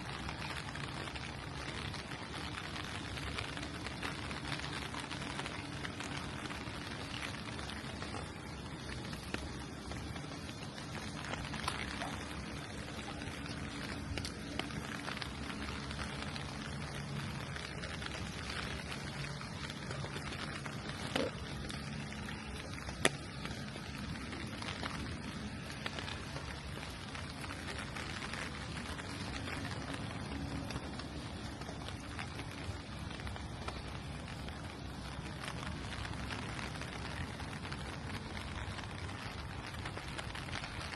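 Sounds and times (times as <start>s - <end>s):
drips: 0.0s - 40.9s
low hum: 0.0s - 40.9s
rain on a street: 0.0s - 40.9s.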